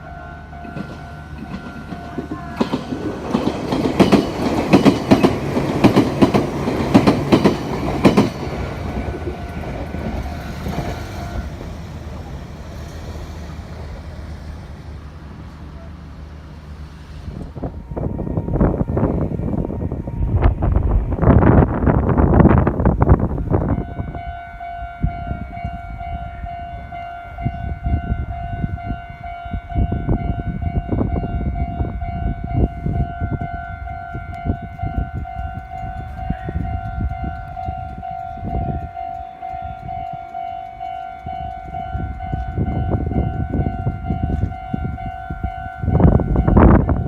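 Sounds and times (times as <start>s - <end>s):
level-crossing warning tone: 0.0s - 16.8s, 22.4s - 47.0s.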